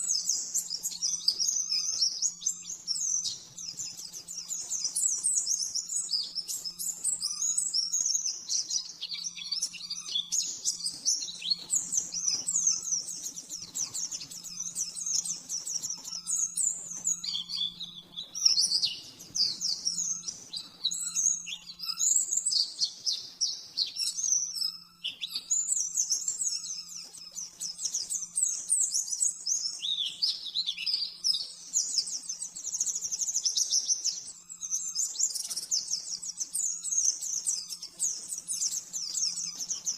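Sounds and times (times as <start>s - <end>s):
bird twittering chirps and trills: 0.0s - 39.9s.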